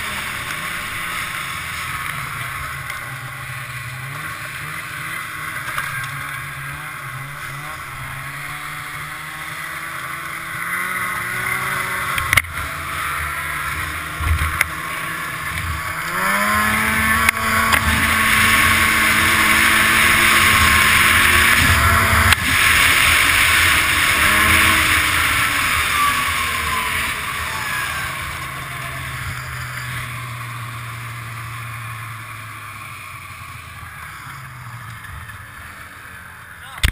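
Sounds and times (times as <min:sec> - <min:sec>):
snowmobile engine revving: 0:00.0 - 0:36.9.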